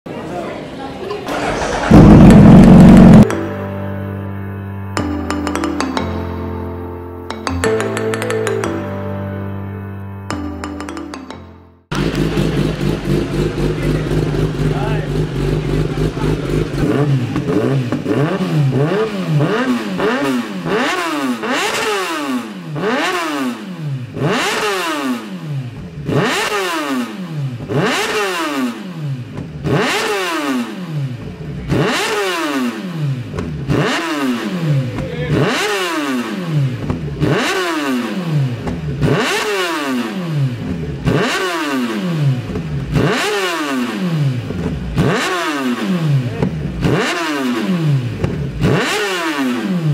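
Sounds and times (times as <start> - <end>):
motorcycle engine revving: 1.2 - 3.5, 11.9 - 49.9.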